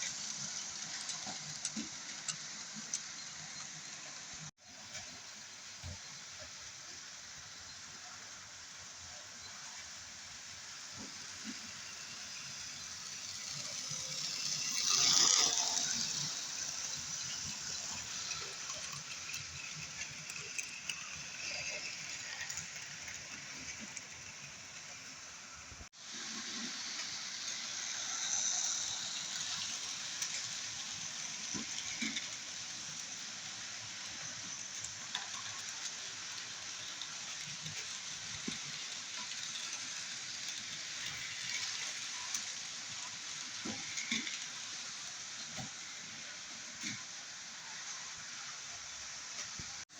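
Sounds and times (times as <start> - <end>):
model train wheels rattling: 0.0 - 5.3, 9.6 - 49.8.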